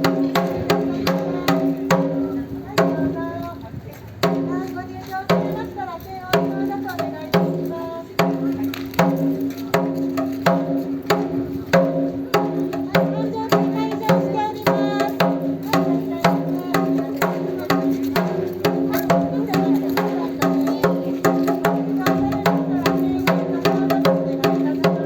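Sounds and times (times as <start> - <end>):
taiko drum strokes: 4.2 - 25.0.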